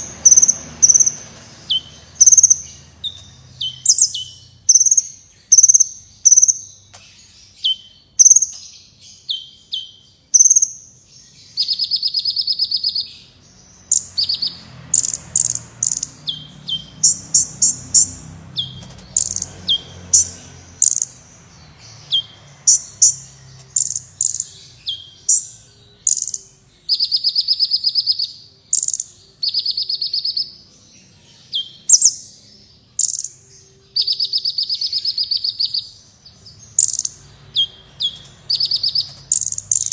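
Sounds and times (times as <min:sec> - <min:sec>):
bird singing high chips: 0:00.0 - 0:39.9
rapid buzzy bird trills: 0:00.0 - 0:39.9.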